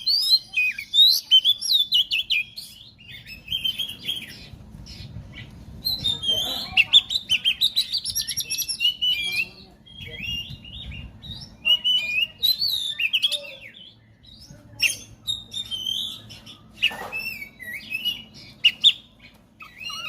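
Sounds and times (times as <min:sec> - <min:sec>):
songbird singing whistles and chirps: 0:00.0 - 0:20.0.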